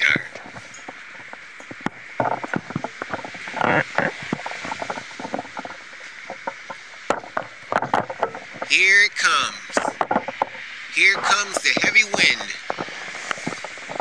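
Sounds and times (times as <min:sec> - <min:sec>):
objects rattling in wind: 0:00.0 - 0:14.0
steady hiss: 0:00.0 - 0:14.0.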